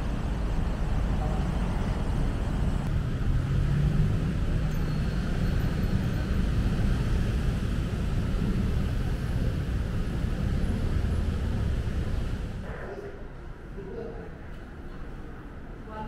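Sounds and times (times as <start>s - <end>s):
low rumble of traffic: 0.0s - 16.0s.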